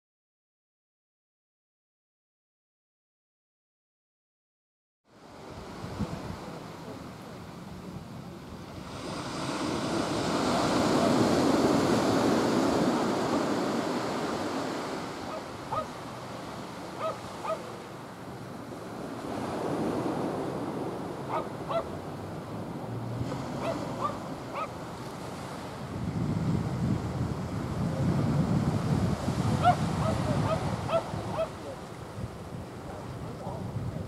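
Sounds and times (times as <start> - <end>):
waves breaking on shore: 5.1 - 34.0.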